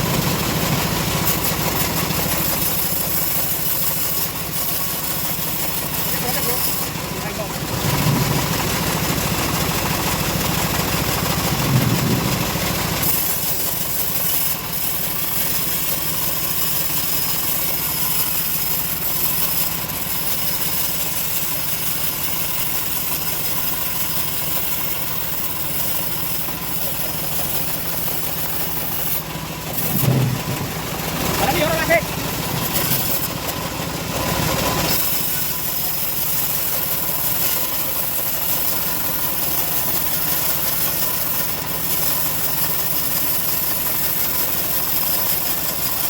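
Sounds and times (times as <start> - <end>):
sawmill engine running: 0.0 - 46.0.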